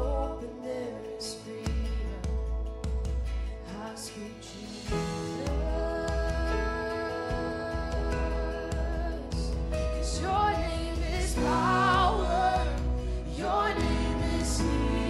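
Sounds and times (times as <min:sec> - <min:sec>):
people singing: 0:00.0 - 0:02.8, 0:03.6 - 0:15.0
electric guitar: 0:00.0 - 0:15.0
keyboard chords: 0:00.0 - 0:15.0.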